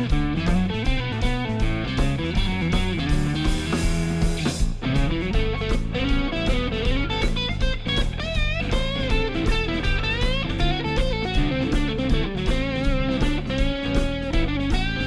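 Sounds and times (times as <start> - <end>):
electric guitar music with beat: 0.0 - 15.0.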